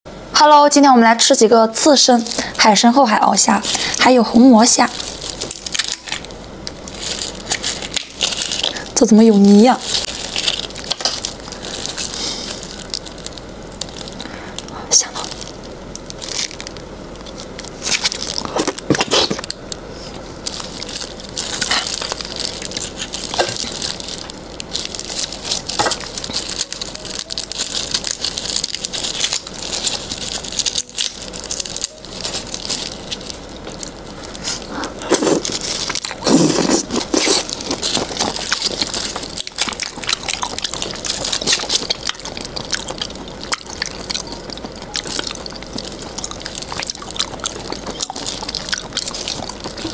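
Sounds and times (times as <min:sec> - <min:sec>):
prawn shells crackling and clicking: 0:01.9 - 0:49.9
soft flesh squishing: 0:01.9 - 0:49.9.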